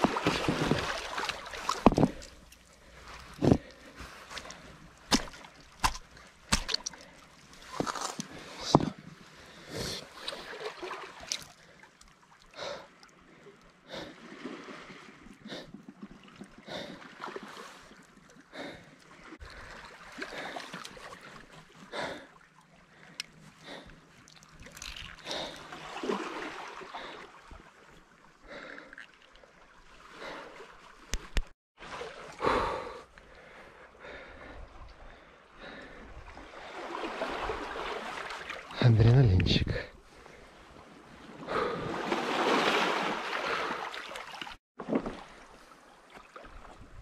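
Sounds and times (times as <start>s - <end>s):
sea water splashing: 0.0s - 32.4s, 36.2s - 38.8s, 40.2s - 47.0s.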